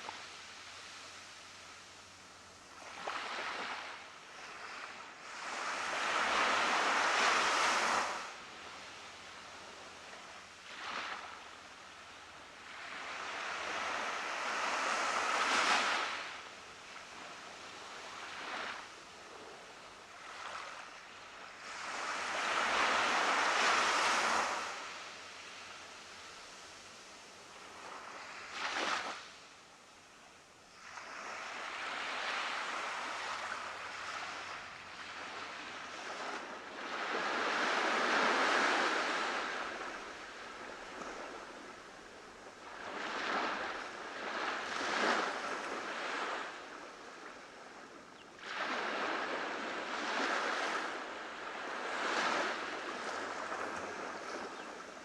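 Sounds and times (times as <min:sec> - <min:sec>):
ocean waves breaking on beach: 0:00.0 - 0:29.6, 0:30.7 - 0:55.0.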